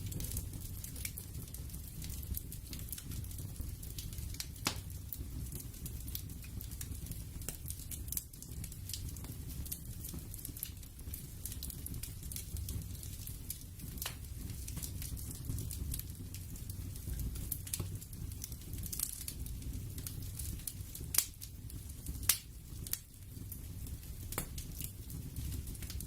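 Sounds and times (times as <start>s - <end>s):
crackles and pops: 0.0s - 26.0s.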